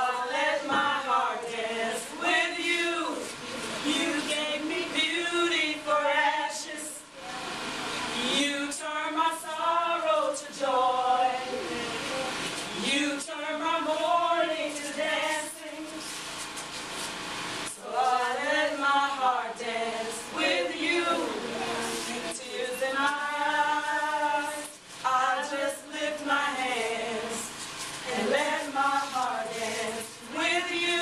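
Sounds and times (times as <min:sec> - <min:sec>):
voices singing a worship song: 0:00.0 - 0:31.0.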